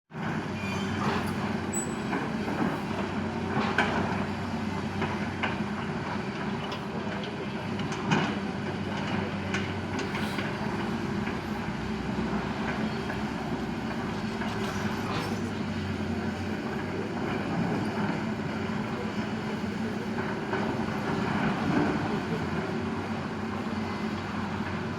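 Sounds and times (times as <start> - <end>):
excavator engine running: 0.2 - 24.9.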